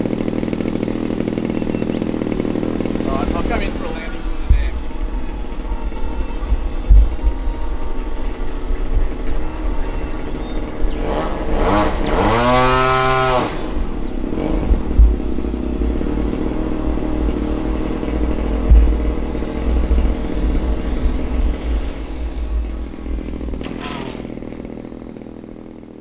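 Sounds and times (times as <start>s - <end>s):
short bumps: 0.0s - 25.6s
model plane motor whining: 0.0s - 26.0s.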